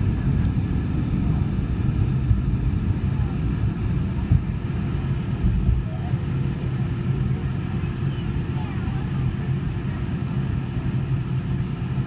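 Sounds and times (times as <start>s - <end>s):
airplane cabin rumble: 0.0s - 12.0s
rushing airflow: 0.0s - 12.0s.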